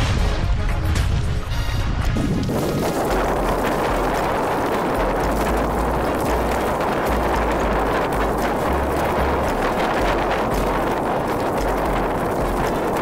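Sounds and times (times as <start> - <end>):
wind buffeting microphone: 1.9 - 13.0
water splashing along boat hull: 2.4 - 13.0.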